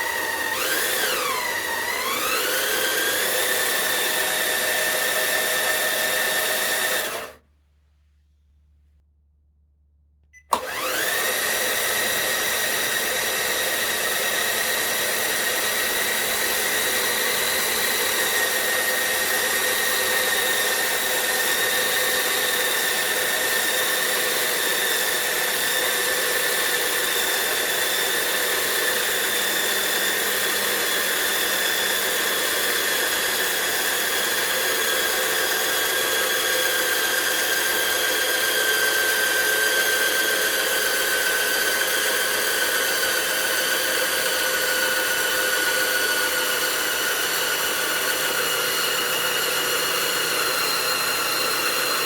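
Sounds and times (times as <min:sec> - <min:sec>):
electric motor whining: 0:00.0 - 0:07.4, 0:10.5 - 0:52.0.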